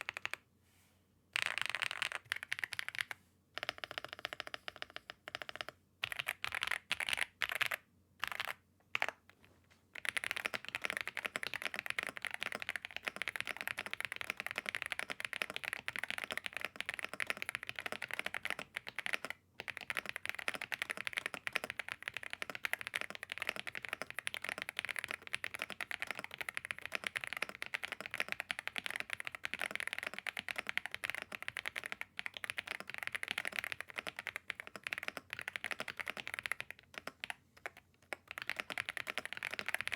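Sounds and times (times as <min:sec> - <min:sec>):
mechanical keyboard typing: 0:00.0 - 0:00.4, 0:01.4 - 0:09.2, 0:10.0 - 0:39.9.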